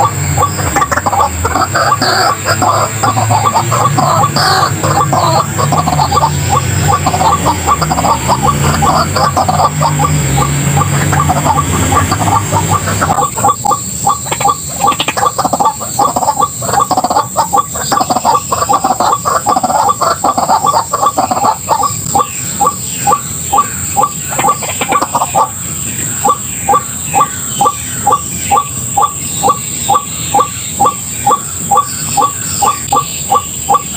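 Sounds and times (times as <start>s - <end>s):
waterhen calling: 0.0s - 33.9s.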